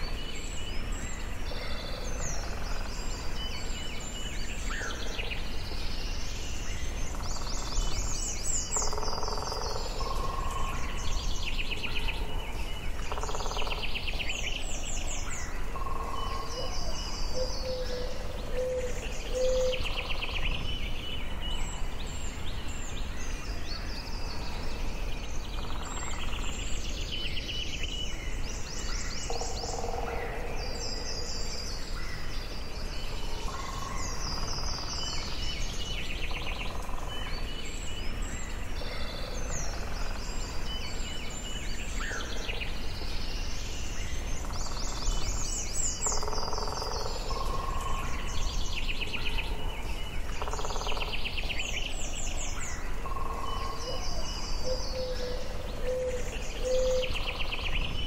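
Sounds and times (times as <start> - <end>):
birds trilling and chirping: 0.0 - 58.0.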